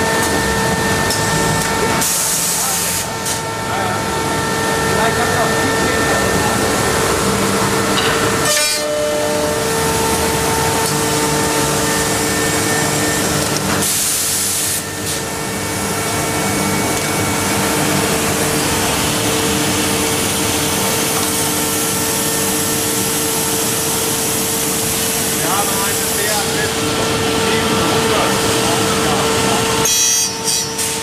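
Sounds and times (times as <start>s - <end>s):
woodworking machine humming: 0.0s - 31.0s.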